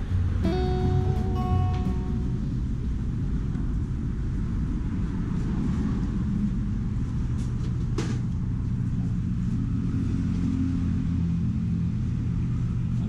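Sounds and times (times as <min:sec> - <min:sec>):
engine hum: 0:00.0 - 0:13.0
road traffic rumble: 0:00.0 - 0:13.0.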